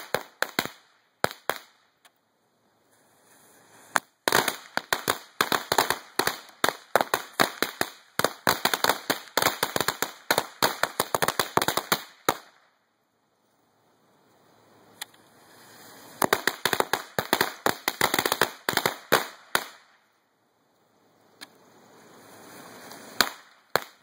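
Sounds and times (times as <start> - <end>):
firecrackers popping: 0.0 - 2.2, 3.1 - 12.8, 14.9 - 20.1, 21.3 - 24.0.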